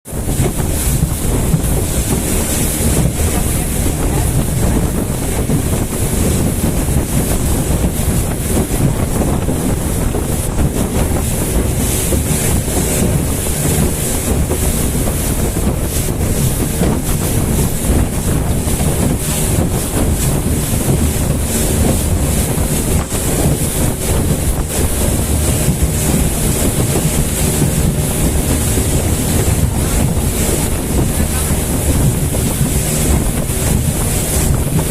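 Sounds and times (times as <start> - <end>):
water and hull noise: 0.0 - 34.9
motorboat engine drone: 0.1 - 34.9
wind buffeting microphone: 0.1 - 34.9.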